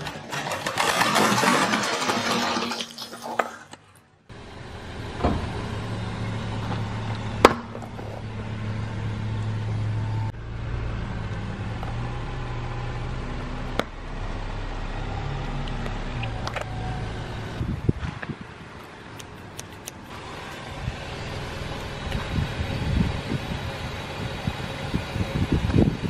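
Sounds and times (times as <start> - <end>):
car engine low hum: 4.3 - 26.0.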